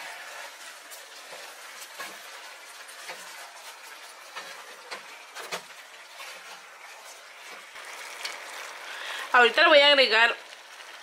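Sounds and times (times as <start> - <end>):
chicken and onion sizzling: 0.0 - 11.0.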